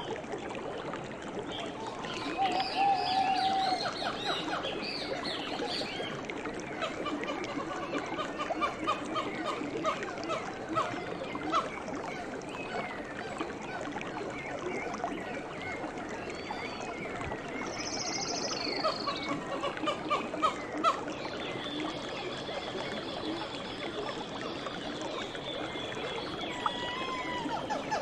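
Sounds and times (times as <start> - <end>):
trickle of water: 0.0 - 28.0.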